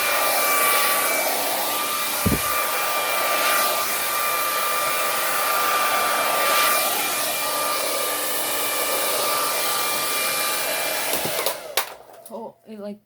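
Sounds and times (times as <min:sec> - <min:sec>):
hair dryer blowing air: 0:00.0 - 0:12.4.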